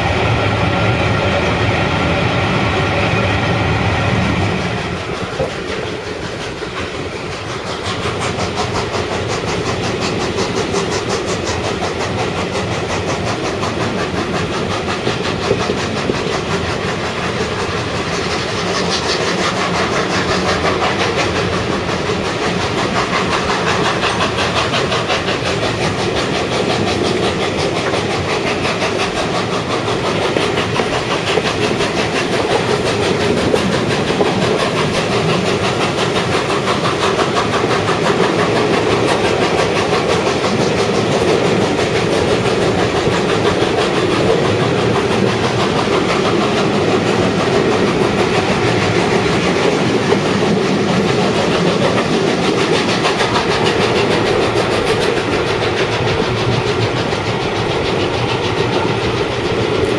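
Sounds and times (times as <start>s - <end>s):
carriages running on rails: 0.0s - 59.9s
steam locomotive beat: 0.0s - 59.9s.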